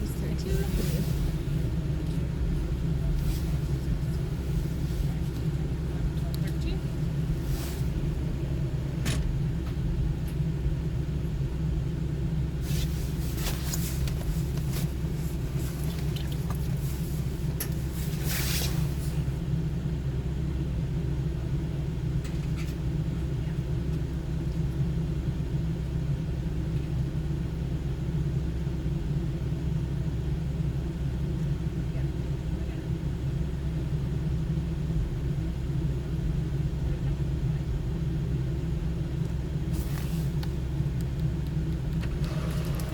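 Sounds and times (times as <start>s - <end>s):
car engine hum inside cabin: 0.0s - 42.9s.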